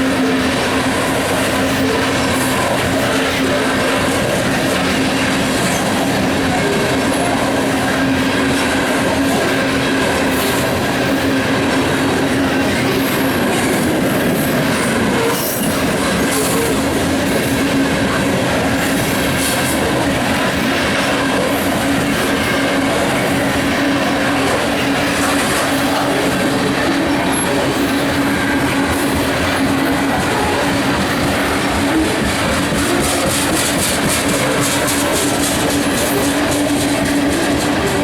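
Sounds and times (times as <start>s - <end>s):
train cars rumbling and clattering: 0.0s - 38.0s.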